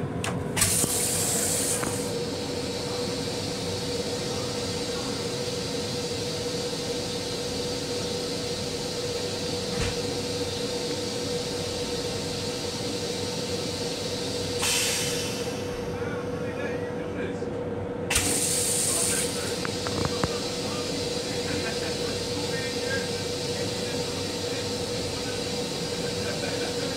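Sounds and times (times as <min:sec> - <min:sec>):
railcar hum: 0:00.0 - 0:26.9
toilet flushing: 0:00.6 - 0:15.9, 0:18.1 - 0:26.9.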